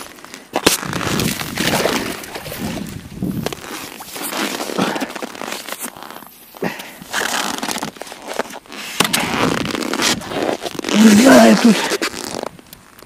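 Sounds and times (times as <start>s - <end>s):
ice and snow crunching: 0.0s - 13.0s.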